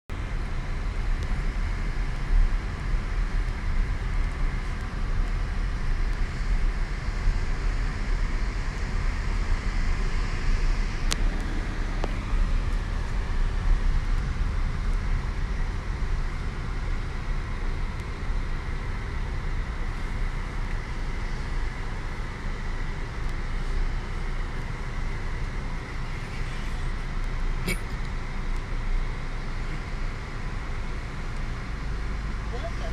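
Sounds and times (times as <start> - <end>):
car engine and road rumble: 0.0 - 32.9.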